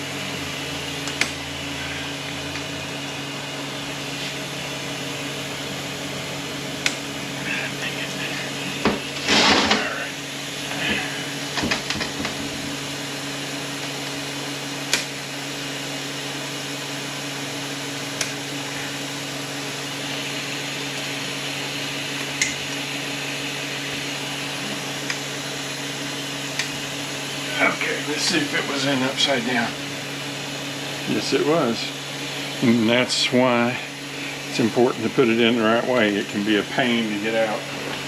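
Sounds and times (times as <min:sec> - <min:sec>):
steady electric hum: 0:00.0 - 0:38.0.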